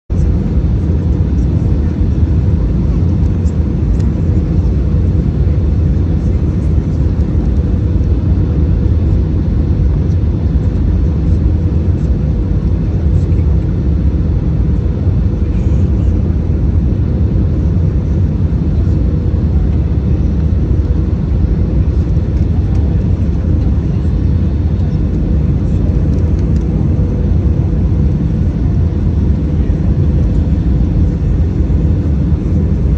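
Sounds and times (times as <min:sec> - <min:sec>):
airflow and engine rumble: 0:00.1 - 0:32.9.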